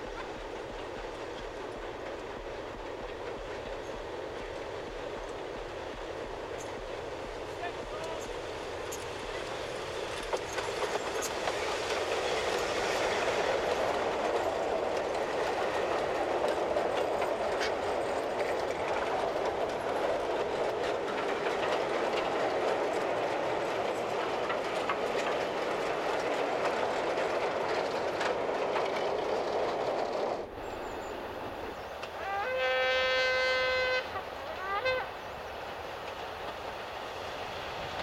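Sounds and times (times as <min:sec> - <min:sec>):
iron wheels rumbling on rail: 0:00.0 - 0:38.0.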